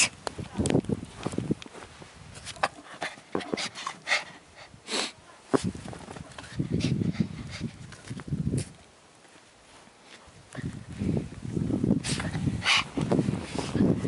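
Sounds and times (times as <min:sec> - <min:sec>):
low rustle: 0:00.0 - 0:14.0.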